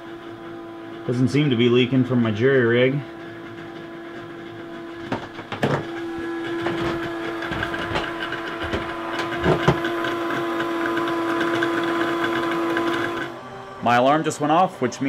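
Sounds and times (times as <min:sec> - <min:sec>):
bilge pump electric hum: 0:00.0 - 0:15.0.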